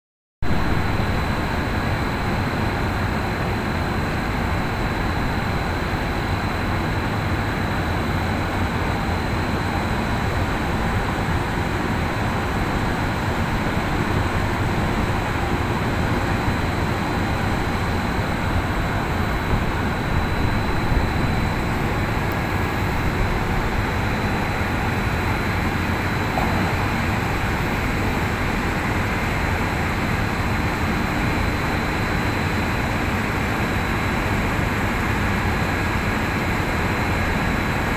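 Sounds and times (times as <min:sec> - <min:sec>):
thin high whine: 0:00.4 - 0:35.3
cargo machinery drone: 0:00.4 - 0:37.9.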